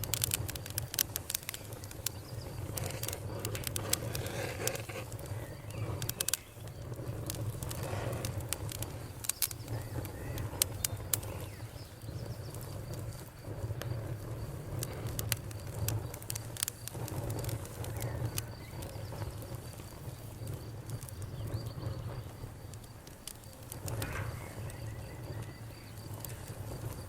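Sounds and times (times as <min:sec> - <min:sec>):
campfire crackling: 0:00.0 - 0:27.0
crickets chirping: 0:00.0 - 0:27.0
sharp pops of fire: 0:00.0 - 0:27.0.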